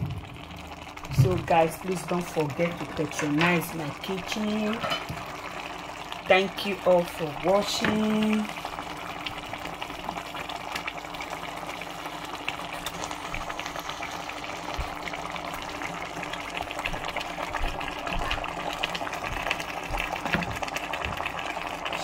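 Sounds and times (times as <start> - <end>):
soup bubbling and crackling: 0.0 - 22.0.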